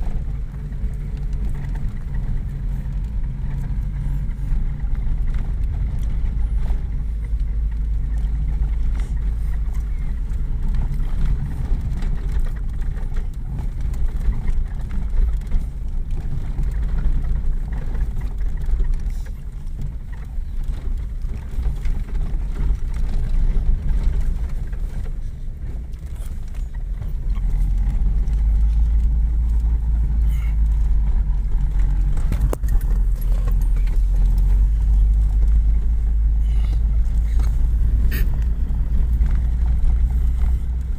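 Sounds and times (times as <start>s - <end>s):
vehicle rumbling on dirt road: 0.0s - 40.9s.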